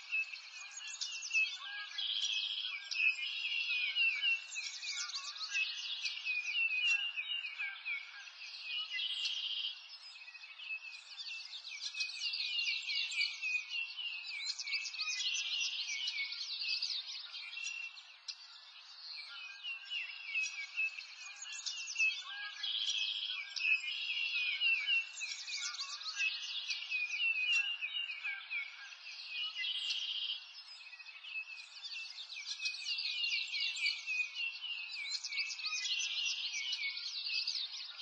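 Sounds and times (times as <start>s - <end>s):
birds chirping and trilling: 0.0s - 38.0s.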